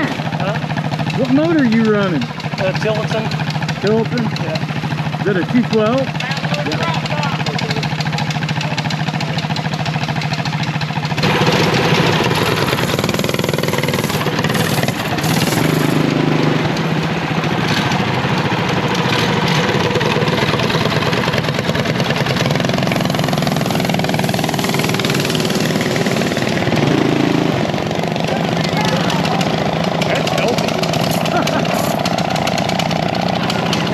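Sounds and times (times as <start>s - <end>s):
mini bike engine running: 0.0s - 33.9s.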